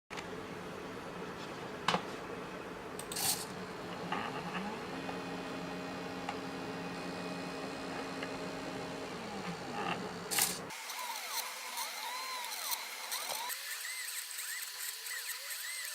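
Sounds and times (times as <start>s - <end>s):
steady background hum: 0.1s - 15.9s
stepper motors whining: 3.0s - 15.9s.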